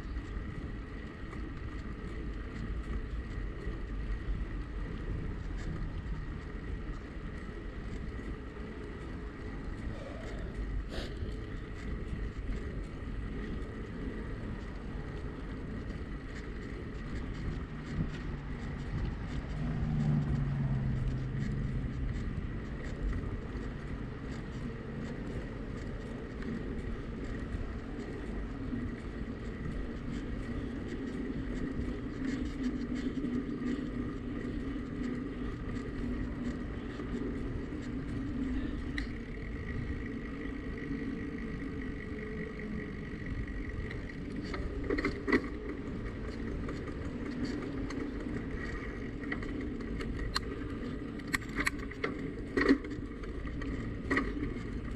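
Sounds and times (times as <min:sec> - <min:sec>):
bicycle tyre rumble: 0:00.0 - 0:54.9
motor vehicle hum: 0:00.0 - 0:54.9
wind on microphone: 0:00.0 - 0:54.9.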